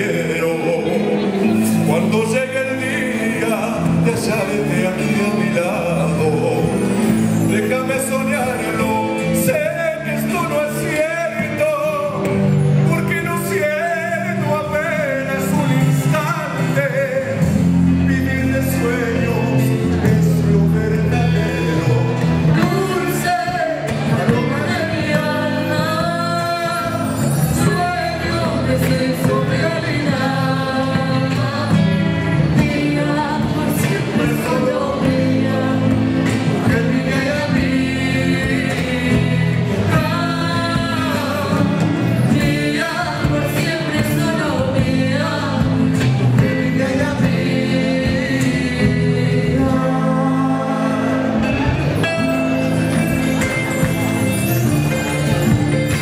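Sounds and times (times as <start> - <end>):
man and woman singing: 0.0 - 51.7
bass: 0.0 - 56.0
electric guitar: 0.0 - 56.0.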